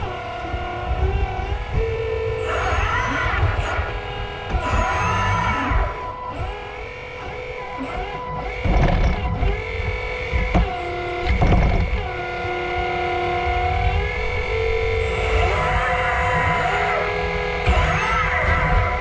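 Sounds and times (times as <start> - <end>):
hydraulic pump whining: 0.0 - 19.0.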